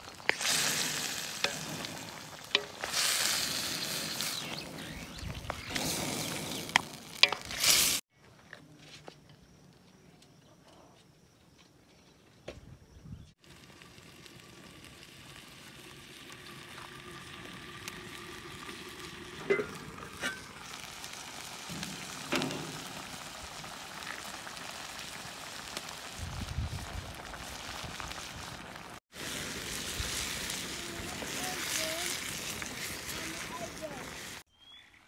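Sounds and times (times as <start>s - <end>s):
food sizzling in a pan: 0.0s - 8.1s, 13.4s - 34.5s.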